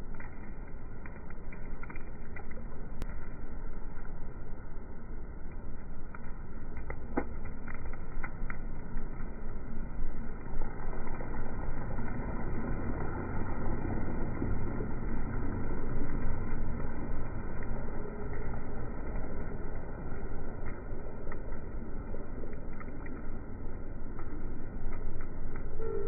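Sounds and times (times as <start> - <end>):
rain falling into puddle: 0.0 - 26.0.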